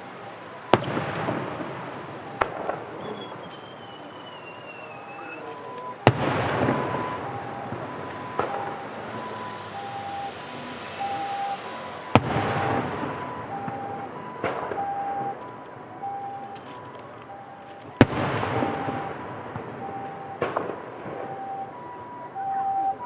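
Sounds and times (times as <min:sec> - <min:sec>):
fireworks bangs with rumbling echo: 0:00.0 - 0:23.0
light fireworks pops: 0:00.0 - 0:23.0.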